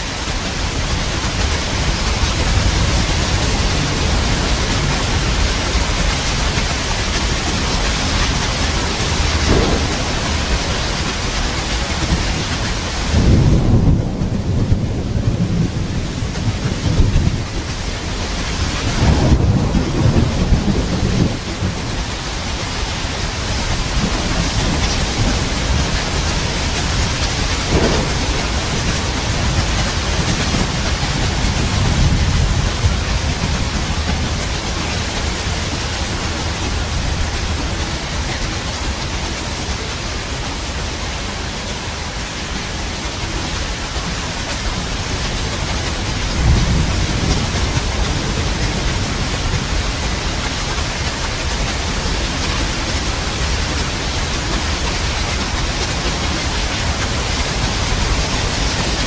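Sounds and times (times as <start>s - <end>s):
rolling thunder: 0.0s - 39.6s, 42.7s - 59.0s
heavy rain: 0.0s - 59.0s.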